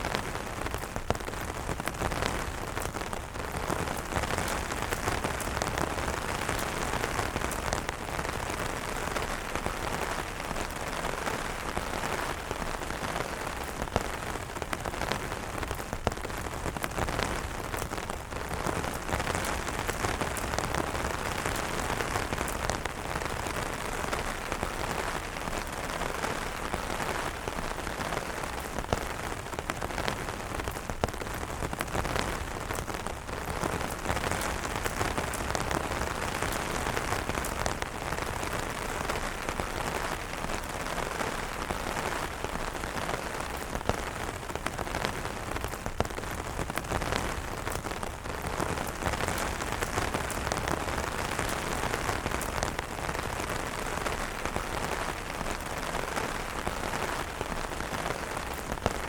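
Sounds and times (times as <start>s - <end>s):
rain pattering on umbrella: 0.0s - 59.0s.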